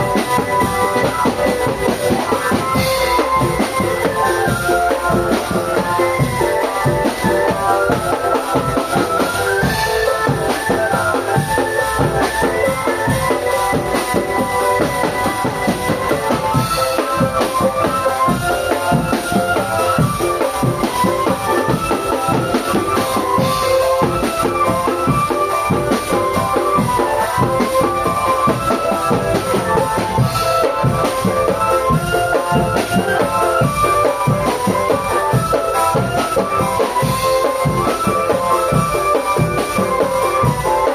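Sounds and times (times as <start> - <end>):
marching drum band: 0.0 - 40.9
snare and bass drums: 0.0 - 40.9.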